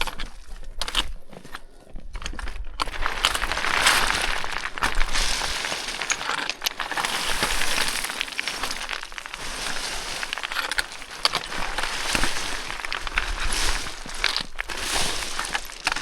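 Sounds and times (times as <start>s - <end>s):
footsteps crunching on scree: 0.0s - 16.0s
small stones clicking: 0.0s - 16.0s.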